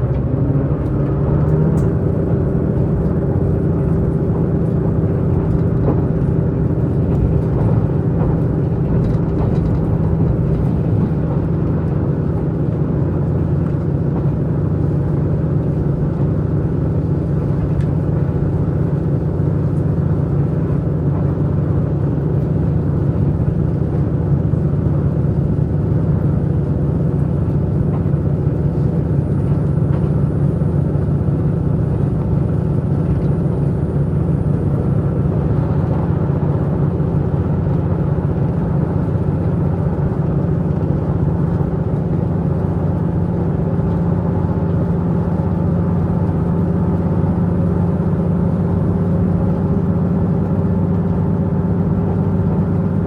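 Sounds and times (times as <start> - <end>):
diesel engine low drone: 0.0 - 53.0
train running noise: 0.0 - 53.0.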